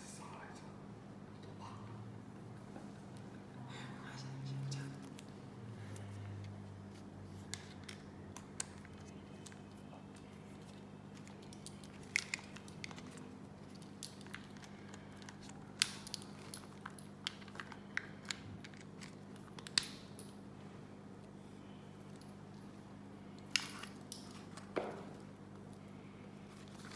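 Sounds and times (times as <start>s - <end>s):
low steady hum: 0.0s - 26.9s.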